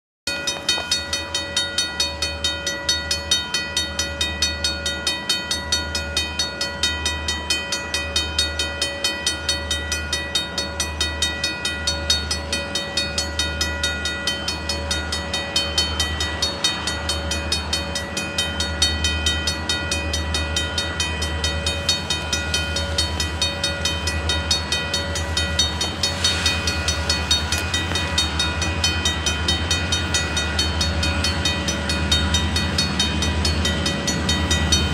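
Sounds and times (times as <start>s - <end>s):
diesel locomotive engine drone: 0.3s - 34.9s.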